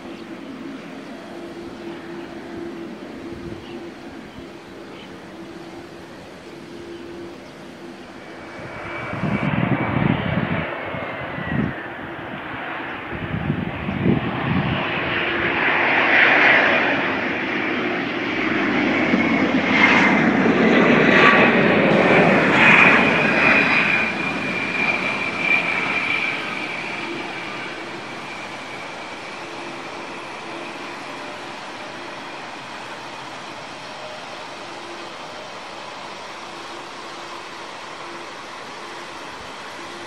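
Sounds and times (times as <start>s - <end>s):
jet engines at takeoff: 0.0s - 40.0s.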